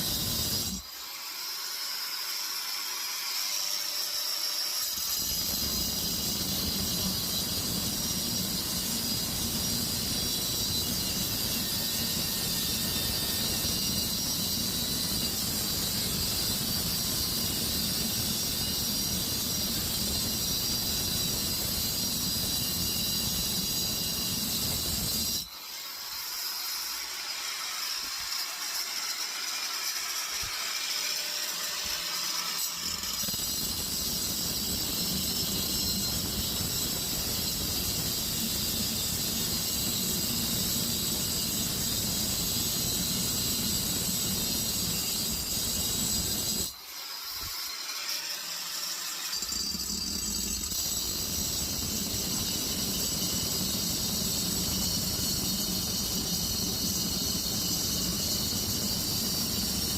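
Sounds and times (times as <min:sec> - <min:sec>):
power tool cutting steel: 0:00.0 - 0:59.9.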